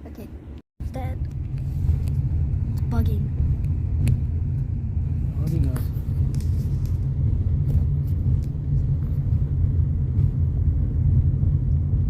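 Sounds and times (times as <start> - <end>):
car road rumble inside cabin: 0.1 - 12.0.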